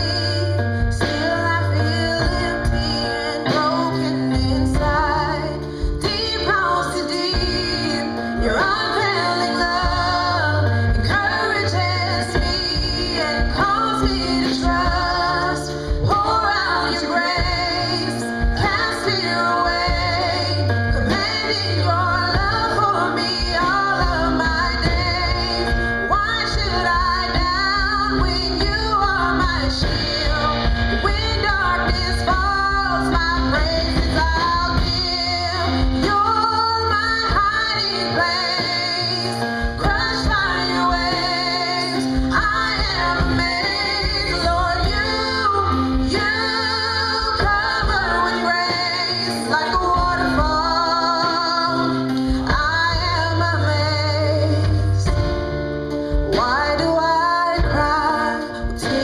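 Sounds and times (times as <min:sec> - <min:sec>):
woman singing: 0:00.0 - 0:55.4, 0:56.1 - 0:59.0
instrumental accompaniment: 0:00.0 - 0:59.0.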